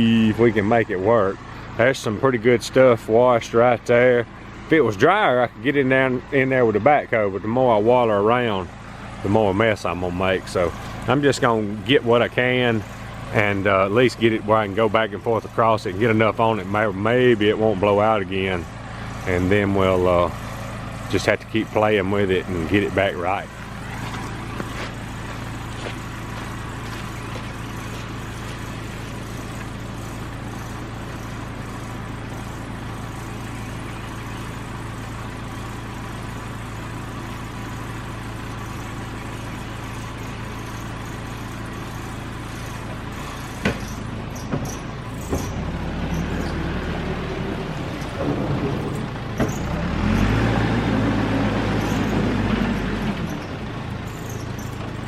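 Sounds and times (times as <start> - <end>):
diesel engine running and revving: 0.0 - 55.0.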